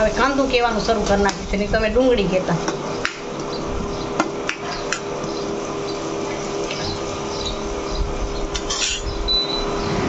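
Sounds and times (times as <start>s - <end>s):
onions sizzling in oil: 0.0s - 10.0s
steady hum: 0.0s - 10.0s.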